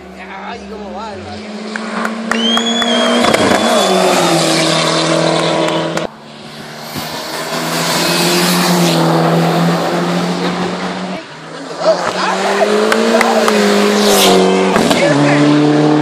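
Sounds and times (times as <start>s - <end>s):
race car engine at full throttle: 0.0s - 16.0s.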